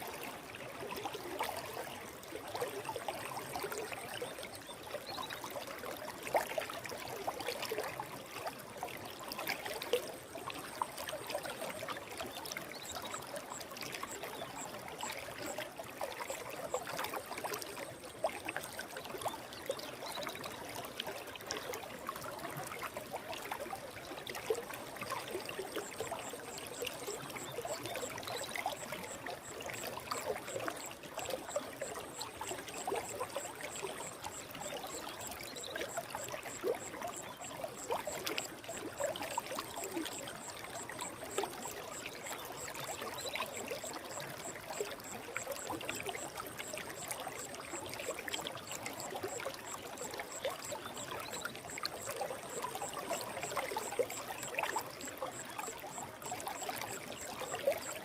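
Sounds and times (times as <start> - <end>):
stream babbling and trickling: 0.0 - 58.0.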